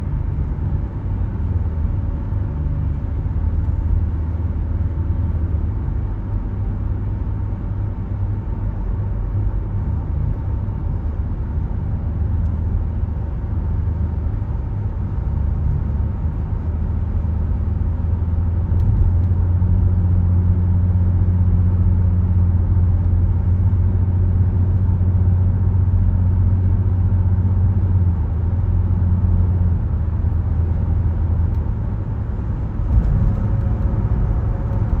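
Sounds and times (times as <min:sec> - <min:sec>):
car driving rumble: 0:00.0 - 0:35.0.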